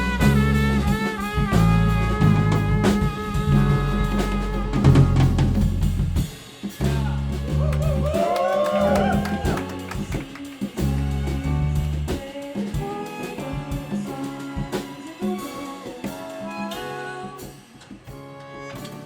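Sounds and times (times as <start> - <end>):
bass guitar: 0.0 - 19.0
drums: 0.0 - 19.0
piano: 0.0 - 19.0
trumpet: 0.0 - 19.0.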